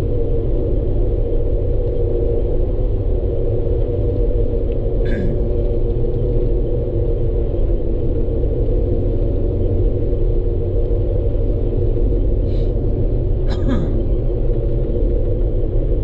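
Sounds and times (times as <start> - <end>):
constant hum: 0.0 - 16.0
engine and tyre rumble: 0.0 - 16.0.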